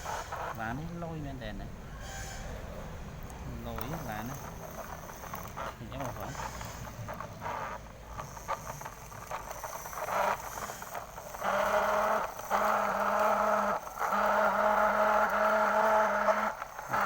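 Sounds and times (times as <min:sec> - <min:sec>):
toy truck motor buzzing: 0:00.0 - 0:17.0.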